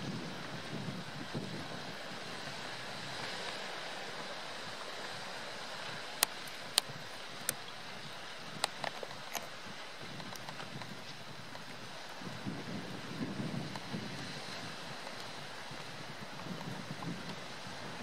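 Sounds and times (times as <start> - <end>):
surf: 0.0 - 18.0
wind noise on microphone: 0.0 - 18.0.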